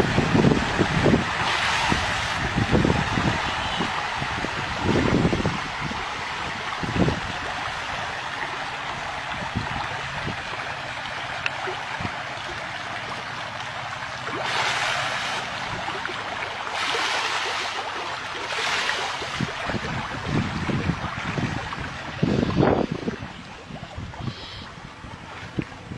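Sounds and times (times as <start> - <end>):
running water rushing: 0.0 - 25.9.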